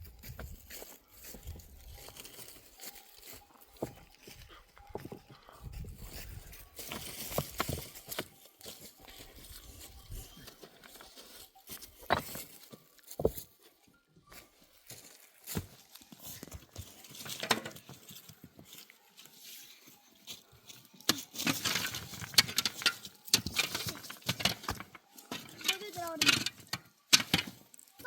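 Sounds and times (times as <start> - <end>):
rustling of materials: 0.0 - 28.0.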